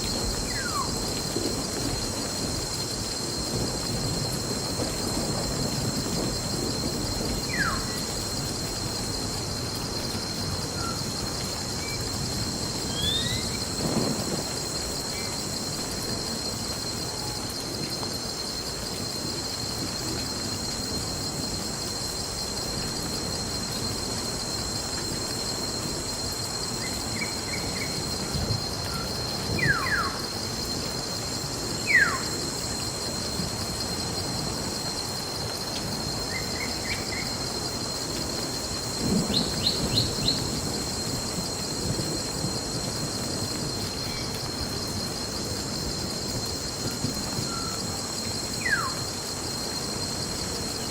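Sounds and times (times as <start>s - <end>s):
background hiss: 0.0s - 50.9s
crickets chirring: 0.0s - 50.9s.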